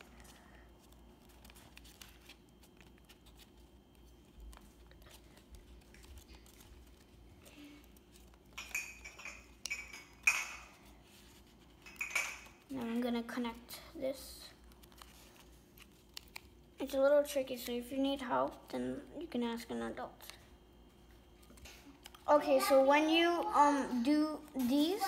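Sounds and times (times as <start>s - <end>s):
paper rustling and crinkling: 0.0s - 8.8s, 10.7s - 20.4s, 21.1s - 25.0s.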